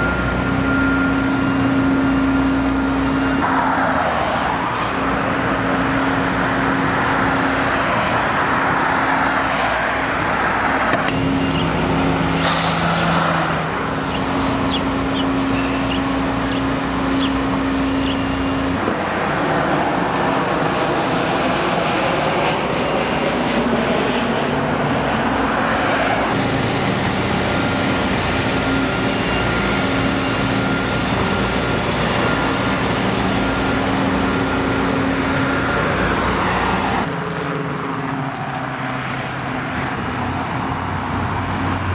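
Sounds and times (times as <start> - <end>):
low engine hum: 0.0 - 9.2, 10.0 - 41.9
road traffic rumble: 0.0 - 41.9.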